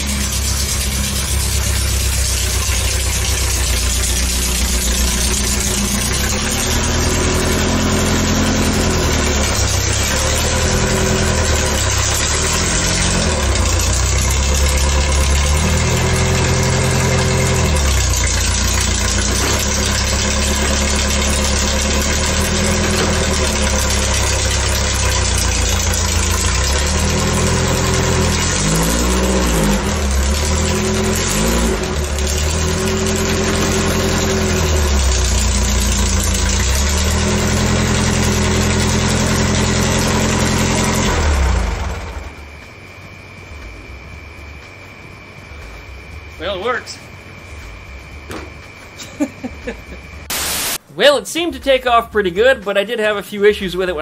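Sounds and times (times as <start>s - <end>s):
engine revving up and down: 0.0s - 43.3s.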